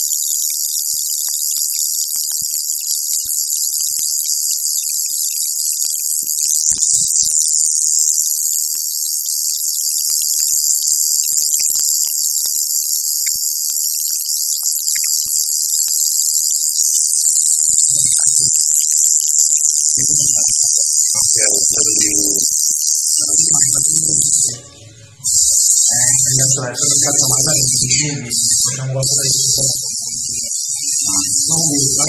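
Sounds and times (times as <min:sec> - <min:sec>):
tattoo machine buzzing: 0:00.0 - 0:32.0.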